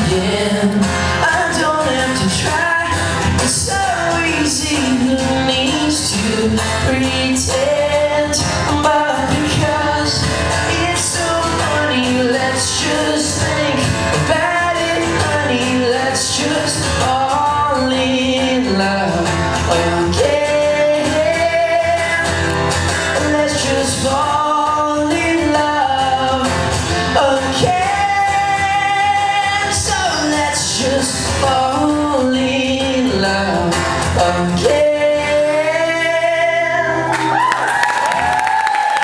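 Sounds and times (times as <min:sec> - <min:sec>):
acoustic guitar strumming: 0:00.0 - 0:37.4.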